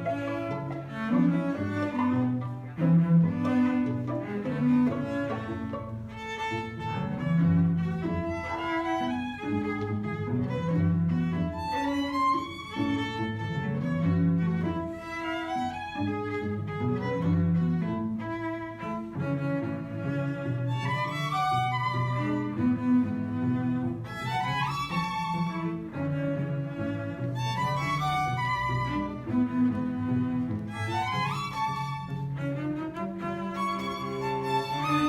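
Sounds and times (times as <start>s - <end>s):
cello line: 0.0s - 35.0s
violin melody: 0.0s - 35.0s.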